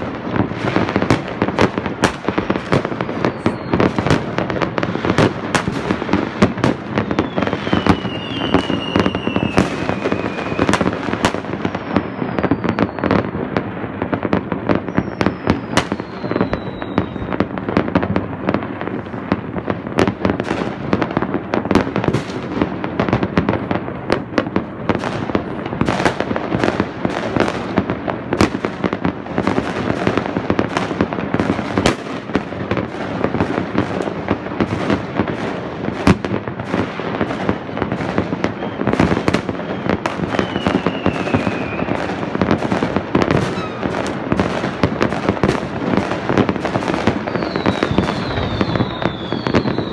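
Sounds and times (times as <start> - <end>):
fireworks bangs and crackles: 0.0 - 49.9
whistling fireworks: 0.0 - 49.9.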